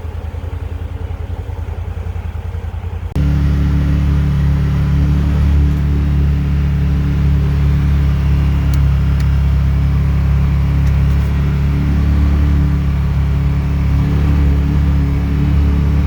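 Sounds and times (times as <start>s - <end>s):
engine running low drone: 0.0s - 16.0s.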